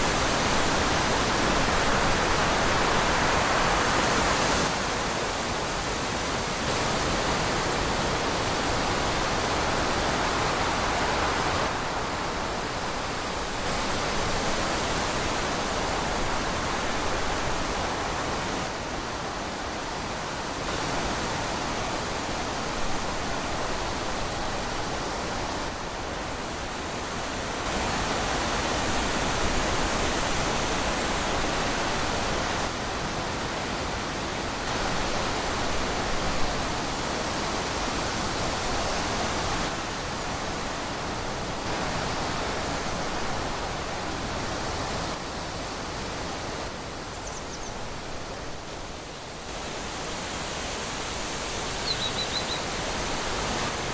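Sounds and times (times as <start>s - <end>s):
wind rushing through trees: 0.0s - 53.9s.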